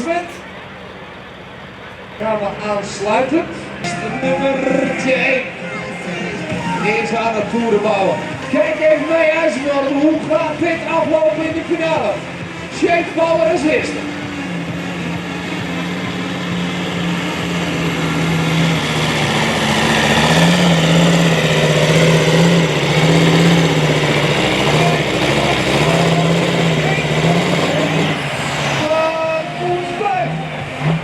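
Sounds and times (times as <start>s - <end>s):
pulling truck engine at full throttle: 0.0s - 31.0s.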